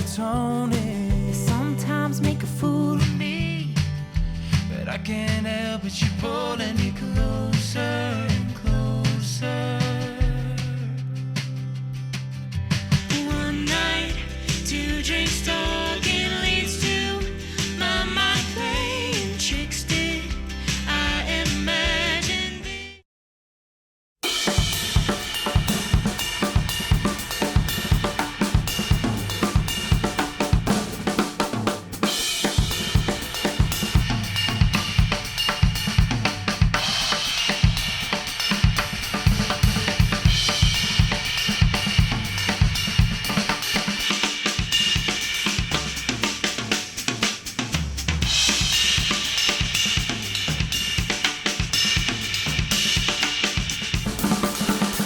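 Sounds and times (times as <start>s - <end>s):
instrumental music with drum kit: 0.0s - 22.8s, 24.2s - 55.0s.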